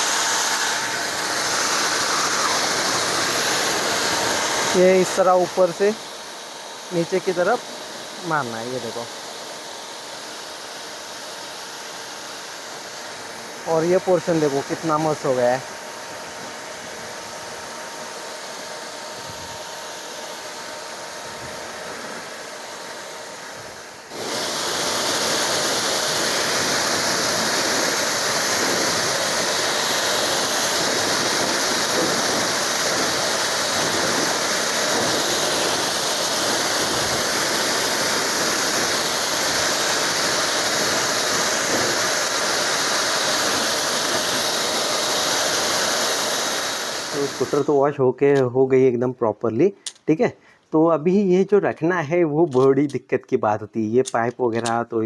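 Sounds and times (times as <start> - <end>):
pressure washer spraying water: 0.0 - 47.9.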